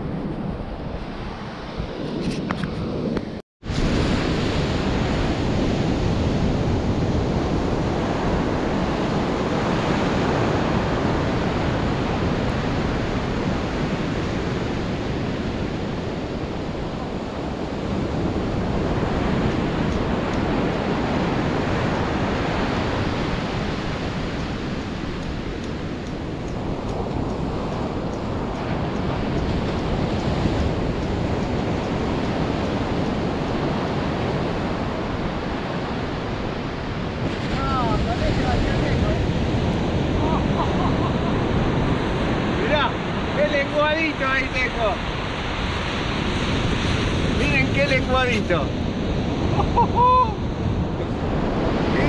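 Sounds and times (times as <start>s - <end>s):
ocean surf breaking: 0.0s - 52.0s
wind buffeting microphone: 0.0s - 52.0s.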